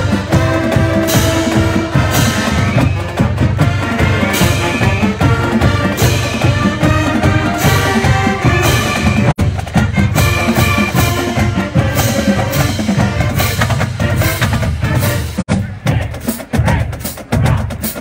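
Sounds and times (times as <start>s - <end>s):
marching band playing: 0.0s - 18.0s
steady drum beat: 0.0s - 18.0s.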